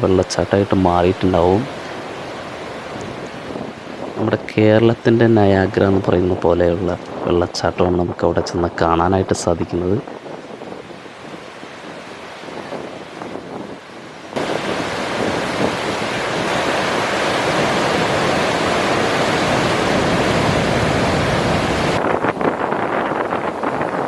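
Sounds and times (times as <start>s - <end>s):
waterfall rushing: 0.0s - 10.4s, 11.0s - 24.0s.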